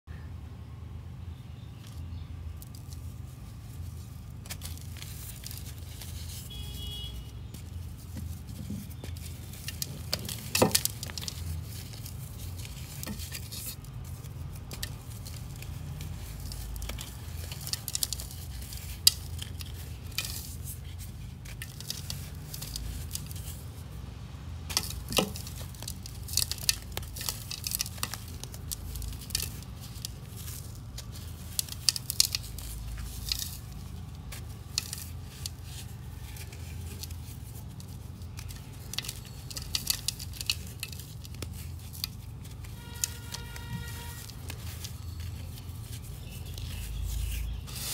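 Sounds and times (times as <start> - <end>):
pieces snapping: 3.9 - 6.8, 7.5 - 23.8, 24.7 - 47.9.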